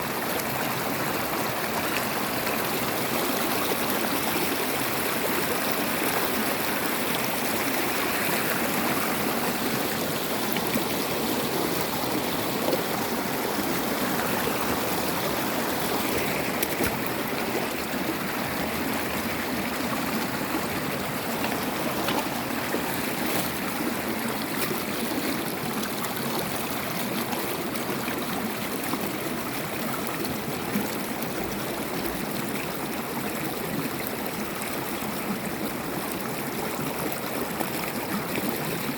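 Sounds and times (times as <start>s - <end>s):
stream splashing over rocks: 0.0s - 38.9s.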